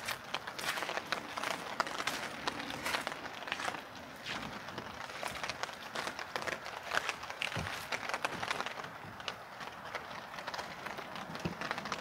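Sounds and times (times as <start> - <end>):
footsteps on wet wooden stairs: 0.0 - 12.0
steady rain: 0.0 - 12.0.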